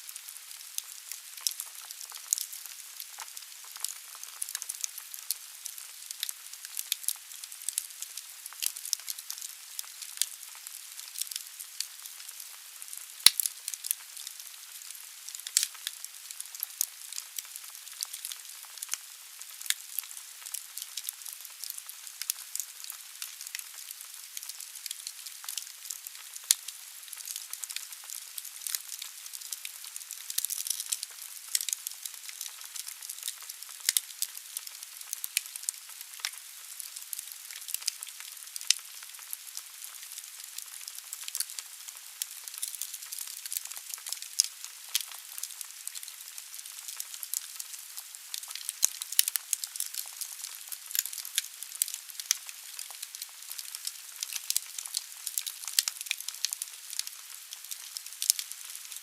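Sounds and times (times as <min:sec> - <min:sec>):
wood fire crackling: 0:00.5 - 0:59.0.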